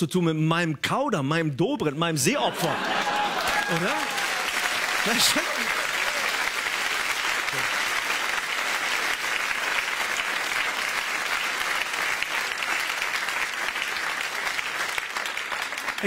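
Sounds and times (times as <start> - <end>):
audience applauding: 2.5 - 16.0.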